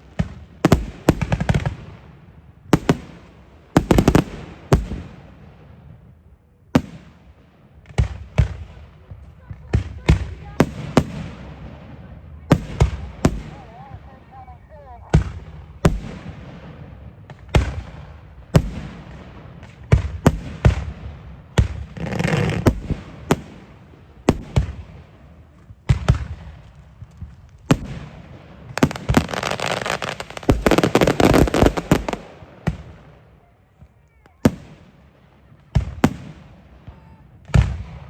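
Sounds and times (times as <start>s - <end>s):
fireworks crackling: 0.0s - 5.9s, 6.8s - 38.0s
fireworks bangs with echo: 0.0s - 38.0s.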